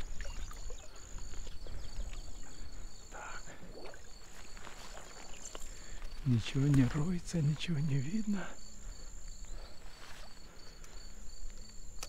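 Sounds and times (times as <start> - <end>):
insects trilling high: 0.0 - 12.0.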